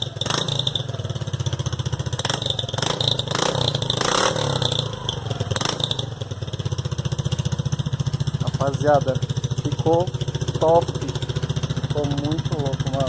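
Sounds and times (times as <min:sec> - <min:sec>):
exhaust cracks: 0:00.0 - 0:13.0
scooter engine idling: 0:00.0 - 0:13.0.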